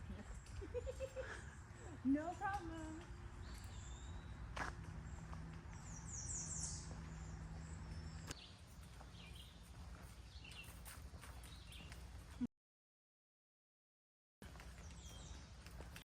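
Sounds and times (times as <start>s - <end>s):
birds chirping: 0.0s - 12.5s, 14.4s - 16.0s.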